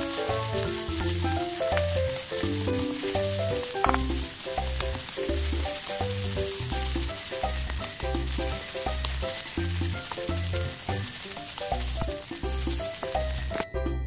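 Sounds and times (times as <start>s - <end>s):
wooden spatula clicking on pan: 0.0s - 13.6s
food sizzling in a pan: 0.0s - 13.7s
background music with bass: 0.0s - 14.0s.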